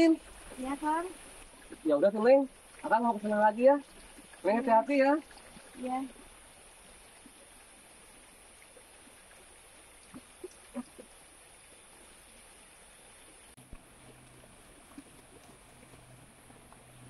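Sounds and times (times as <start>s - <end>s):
faint steady high hiss: 0.0s - 17.0s.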